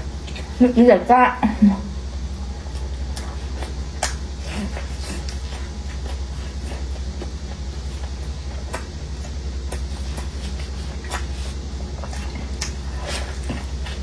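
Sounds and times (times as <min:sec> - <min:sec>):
steady low hum: 0:00.0 - 0:14.0
chewing clicks and mouth crackles: 0:02.2 - 0:14.0.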